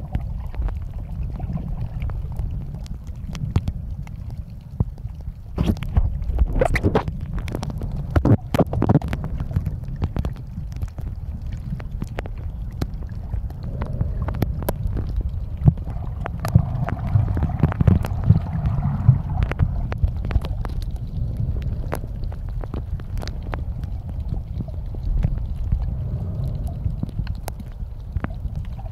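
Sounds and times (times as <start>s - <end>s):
underwater rumble: 0.0s - 28.9s
small sharp clicks and pops: 0.1s - 28.9s.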